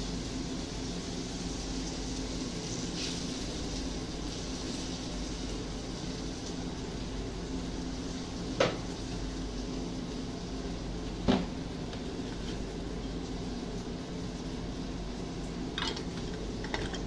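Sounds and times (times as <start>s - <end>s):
kitchen hum and hiss: 0.0s - 17.0s.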